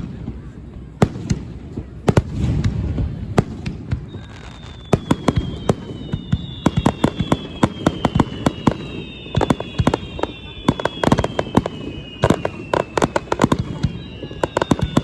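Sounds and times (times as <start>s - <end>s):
fireworks cracks and bangs: 0.0s - 15.0s
descending firework whistles: 2.1s - 15.0s.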